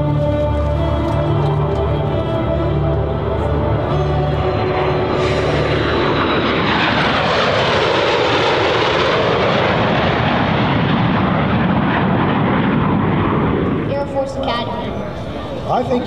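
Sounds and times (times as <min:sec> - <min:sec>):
jet engines flying past: 0:00.0 - 0:16.0.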